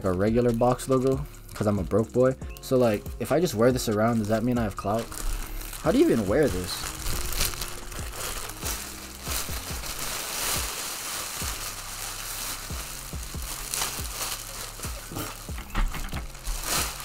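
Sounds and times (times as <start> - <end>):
plastic poncho crinkling: 0.0 - 17.0.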